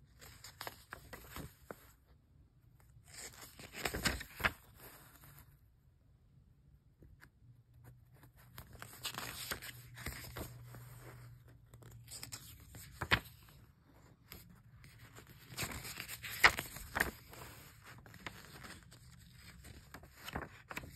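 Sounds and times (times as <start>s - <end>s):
paper rustling and crinkling: 0.1s - 2.0s, 2.9s - 5.5s, 8.2s - 20.9s.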